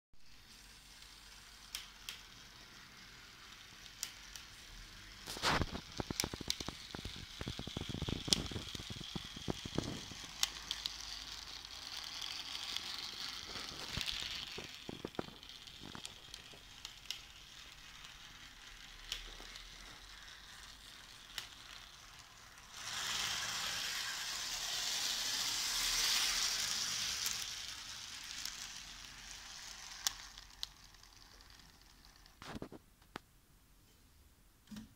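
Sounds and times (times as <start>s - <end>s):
small motor whirring hiss: 0.2s - 32.4s.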